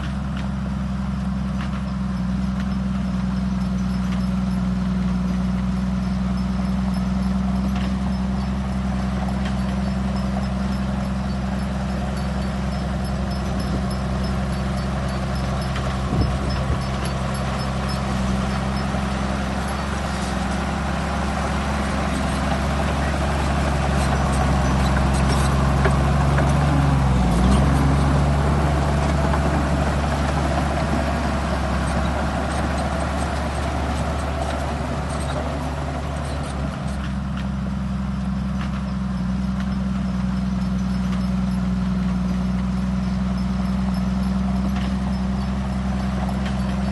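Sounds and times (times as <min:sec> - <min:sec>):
heavy diesel machinery engine: 0:00.0 - 0:46.9.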